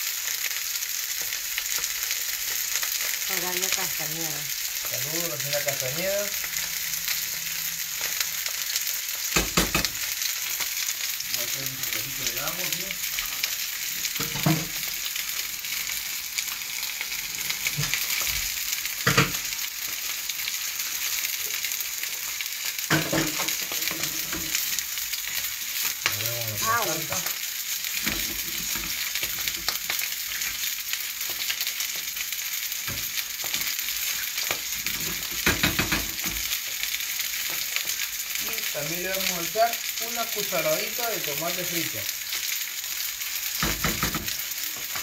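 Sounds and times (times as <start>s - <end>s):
fish sizzling in frying pan: 0.0s - 45.0s.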